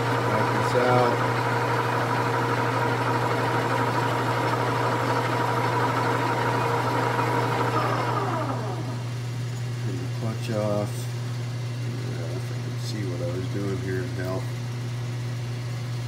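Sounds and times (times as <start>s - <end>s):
metal lathe humming and whining: 0.0s - 14.2s.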